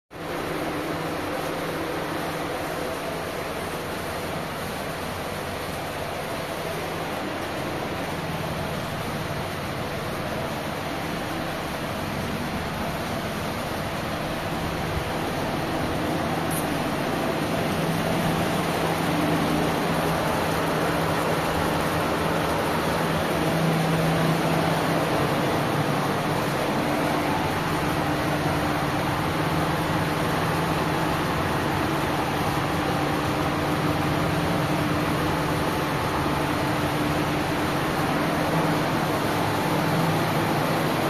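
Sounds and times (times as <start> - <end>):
refrigeration machinery humming: 0.1 - 41.0.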